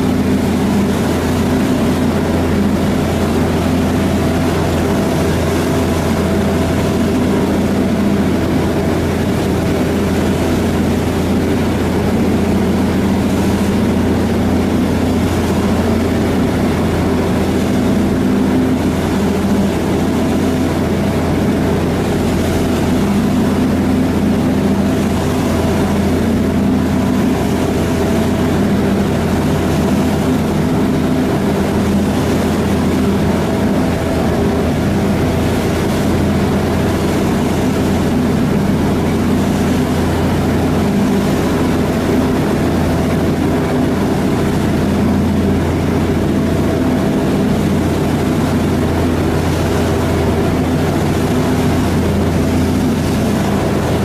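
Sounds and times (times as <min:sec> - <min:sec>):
ferry engine drone: 0:00.0 - 0:54.0
rushing wake water: 0:00.0 - 0:54.0.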